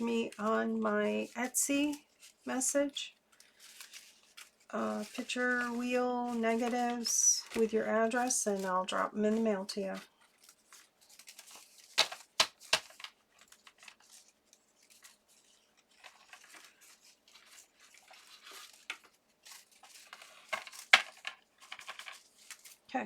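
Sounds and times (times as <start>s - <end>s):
paper rustling and sliding: 3.3s - 22.8s.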